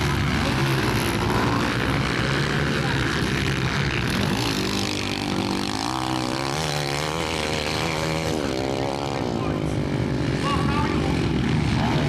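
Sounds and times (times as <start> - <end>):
dirt bike engines running hard: 0.0 - 12.0
engine revving: 0.0 - 12.0.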